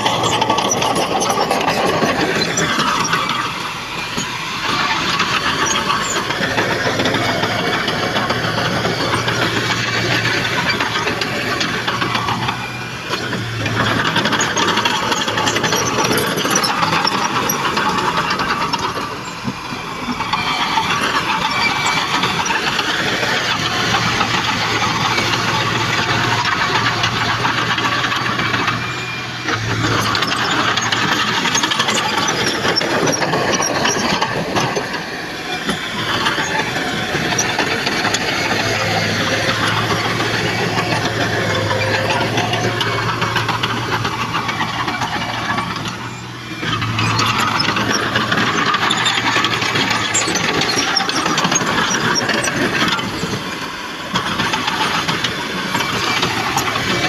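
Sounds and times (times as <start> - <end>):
heavy machinery engine clattering: 0.0 - 57.0.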